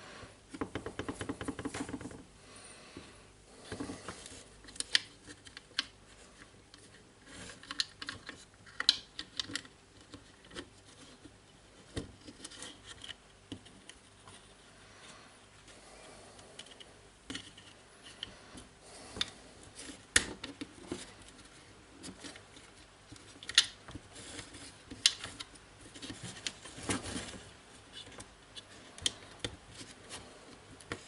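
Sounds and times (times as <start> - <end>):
small clicks and knocks: 3.7 - 14.5, 16.3 - 31.0.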